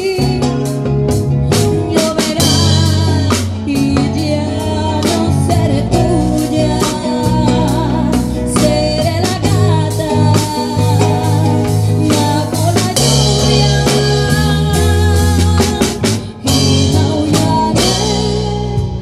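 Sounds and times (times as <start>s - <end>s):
live band music: 0.0s - 19.0s
woman singing a ballad: 0.0s - 19.0s.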